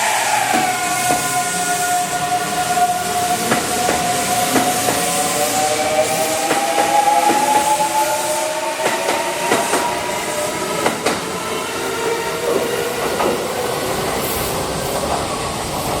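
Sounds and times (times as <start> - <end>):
train wheels squealing on rails: 0.0 - 16.0.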